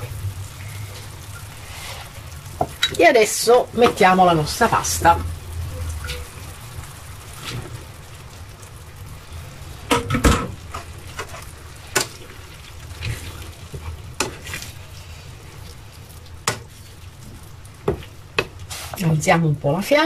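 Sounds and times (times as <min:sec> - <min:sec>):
pasta stirred in pan: 0:00.0 - 0:20.0
tomato sauce sizzling and bubbling: 0:00.0 - 0:20.0.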